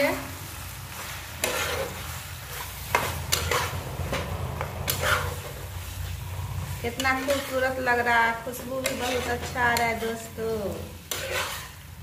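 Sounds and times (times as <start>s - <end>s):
gravy sizzling: 0.0s - 12.0s
spatula scraping pan: 0.8s - 12.0s.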